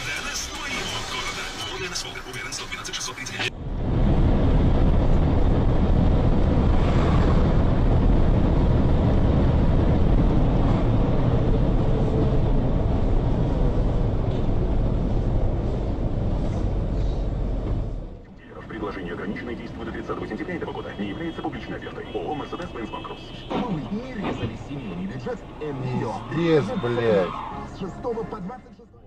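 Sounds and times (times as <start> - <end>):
car rumbling while driving: 0.0 - 28.3.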